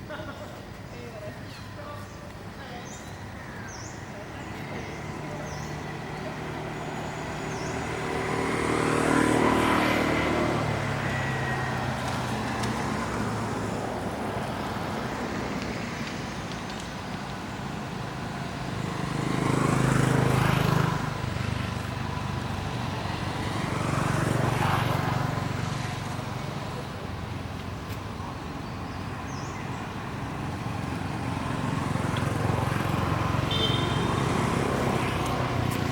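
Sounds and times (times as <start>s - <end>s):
steady traffic background: 0.0s - 35.9s
vehicles passing by: 0.0s - 35.9s.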